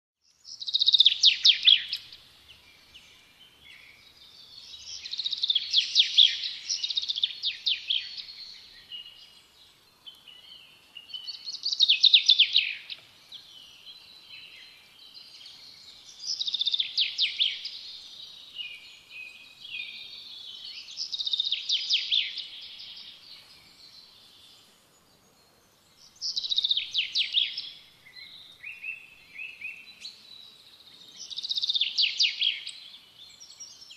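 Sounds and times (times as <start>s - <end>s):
bird trilling song: 0.2s - 33.9s.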